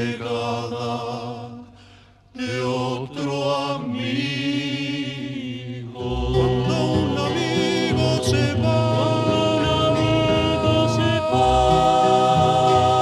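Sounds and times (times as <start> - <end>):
voices singing held notes: 0.0 - 13.0.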